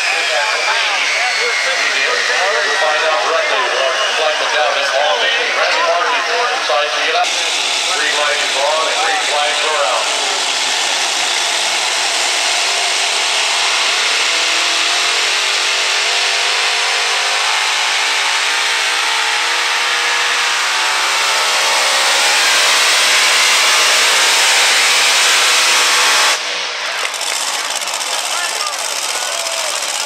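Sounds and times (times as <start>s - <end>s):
pulling tractor engines running flat out: 0.0s - 30.0s.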